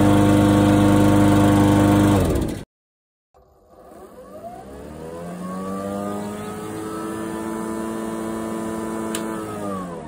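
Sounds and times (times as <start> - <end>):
electric lawn mower whine: 0.0 - 2.6, 3.4 - 10.0.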